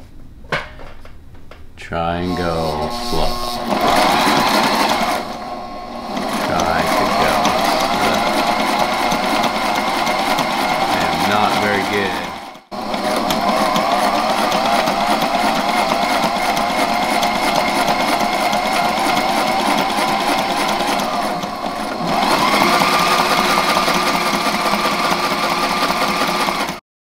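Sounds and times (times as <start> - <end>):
electric sewing machine running: 2.2 - 26.8.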